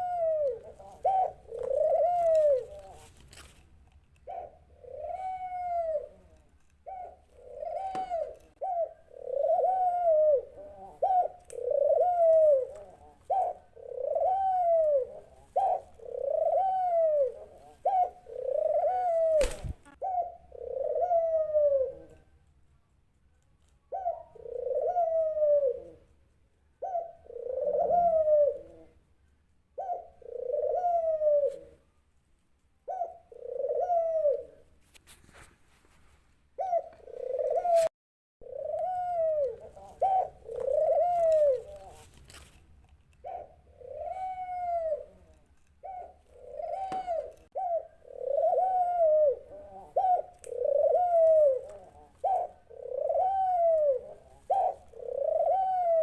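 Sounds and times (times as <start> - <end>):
dove cooing: 0.0 - 3.5, 4.2 - 22.3, 23.8 - 29.1, 29.7 - 31.9, 32.8 - 34.7, 36.6 - 42.5, 43.2 - 56.0.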